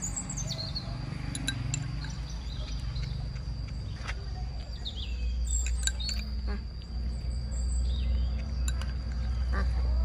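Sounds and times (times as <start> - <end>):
small birds chirping: 0.0 - 10.0
steady low rumble: 0.0 - 10.0.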